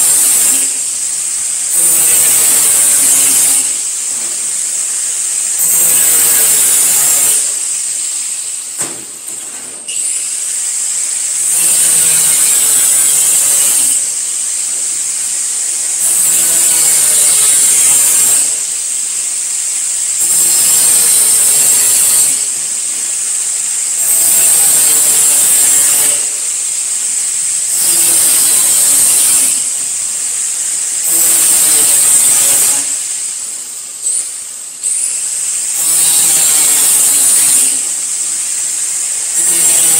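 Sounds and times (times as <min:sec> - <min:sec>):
angle grinder grinding sheet metal: 0:00.0 - 0:39.9.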